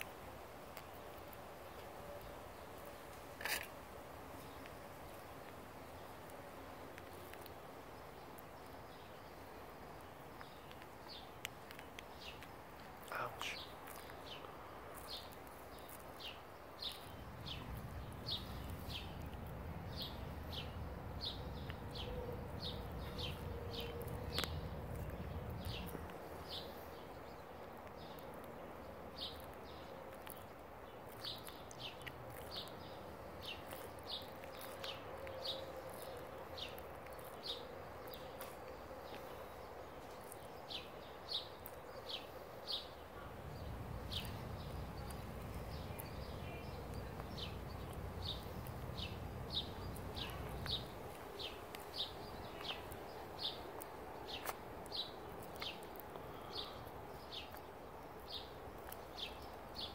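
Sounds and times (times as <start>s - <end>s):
bird chirping: 7.0s - 59.9s.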